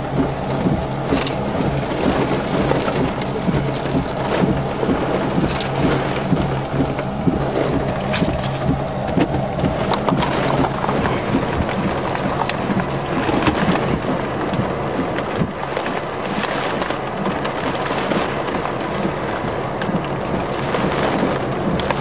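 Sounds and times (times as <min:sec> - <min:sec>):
heavy rain and wind on a car: 0:00.0 - 0:22.0
low car hum: 0:00.0 - 0:22.0
raindrops ticking on glass: 0:00.0 - 0:22.0.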